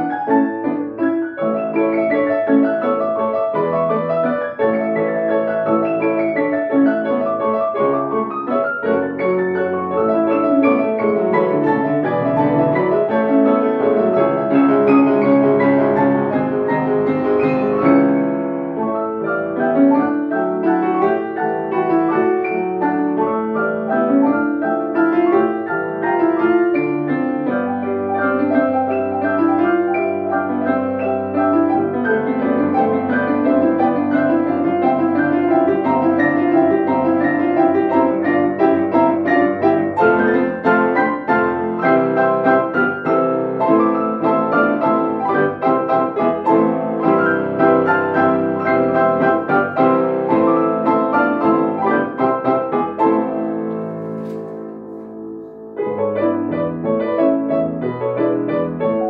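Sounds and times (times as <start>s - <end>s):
grand piano piece: 0.0s - 59.0s.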